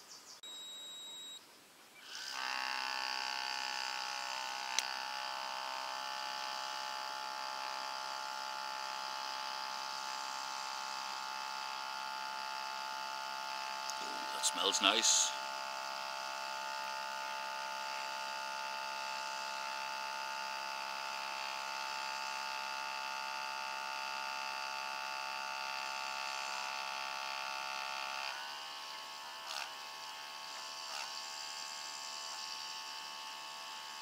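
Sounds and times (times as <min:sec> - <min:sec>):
espresso machine pump whining: 0:00.4 - 0:01.4, 0:02.0 - 0:34.0.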